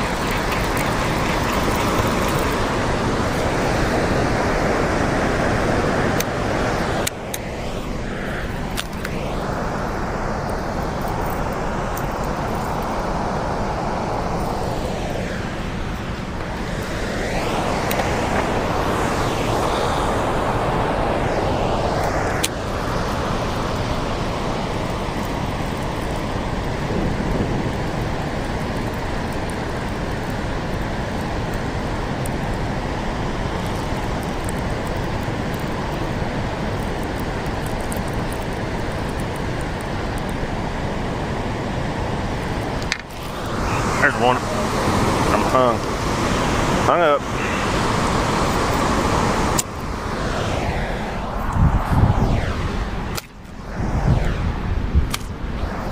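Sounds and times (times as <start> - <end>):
churning water rushing: 0.0 - 51.4
wind buffeting microphone: 0.0 - 55.9.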